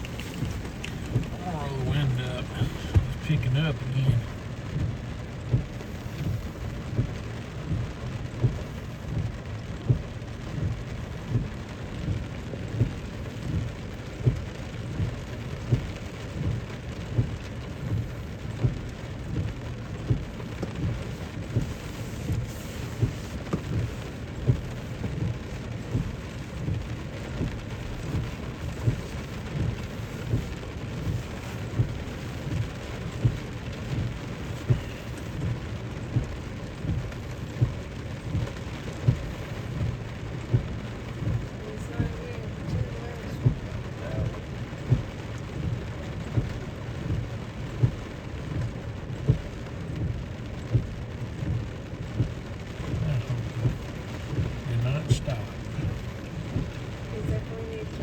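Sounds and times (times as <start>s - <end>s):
rain falling on a car: 0.0s - 58.0s.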